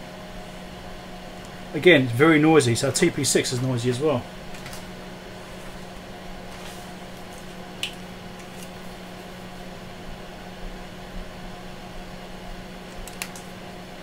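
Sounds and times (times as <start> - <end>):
test equipment humming: 0.0 - 14.0.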